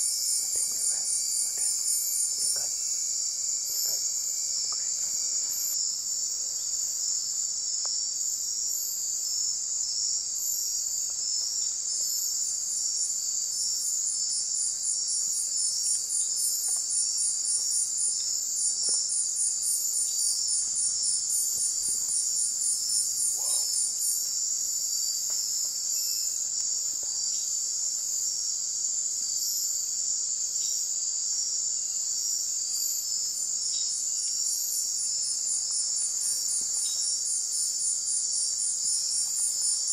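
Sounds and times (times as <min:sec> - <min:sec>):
higher pulsed insect trill: 0:00.0 - 0:39.9
shrill insect buzzing trill: 0:00.0 - 0:39.9.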